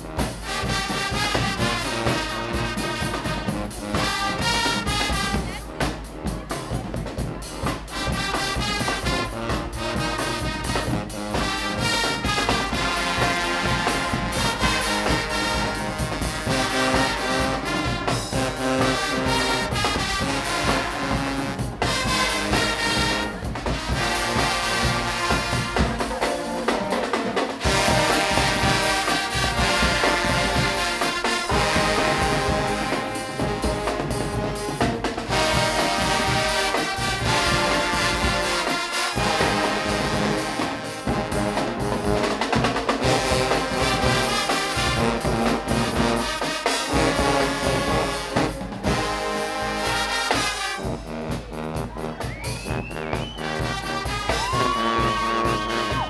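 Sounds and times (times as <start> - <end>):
drums and percussion: 0.0 - 56.0
loud brass playing: 0.0 - 56.0.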